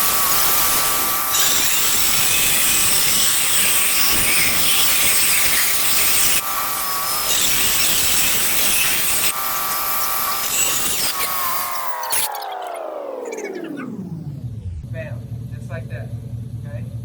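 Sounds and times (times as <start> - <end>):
power tool cutting tile: 0.0 - 13.8.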